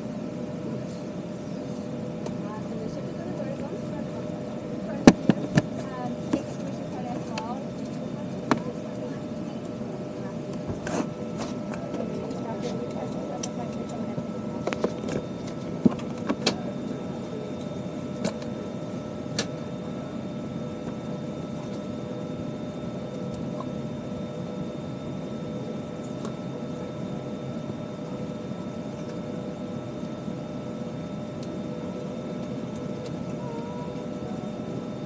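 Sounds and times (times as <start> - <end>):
aircraft cabin air hum: 0.0 - 35.0.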